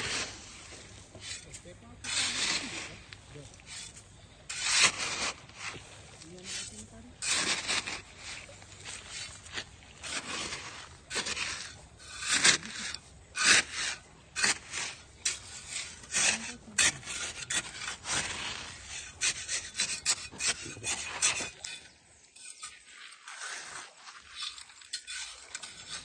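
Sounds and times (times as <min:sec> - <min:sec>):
rough scraping strokes: 0:00.0 - 0:26.0.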